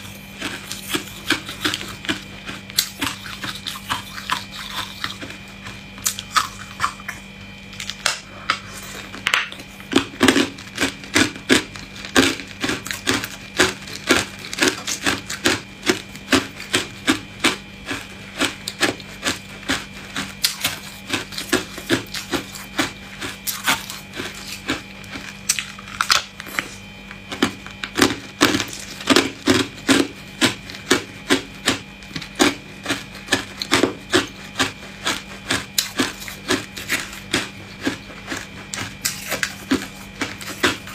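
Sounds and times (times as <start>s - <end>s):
ice cubes being chewed: 0.0s - 40.9s.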